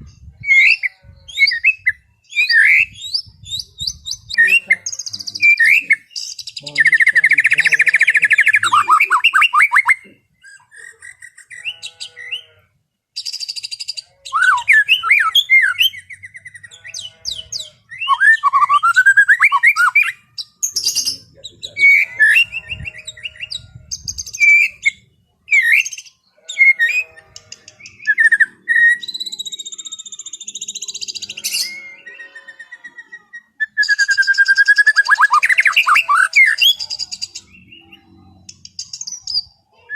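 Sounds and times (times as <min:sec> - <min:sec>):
bird singing whistles and trills: 0:00.2 - 0:12.5, 0:13.2 - 0:27.2, 0:27.8 - 0:39.6.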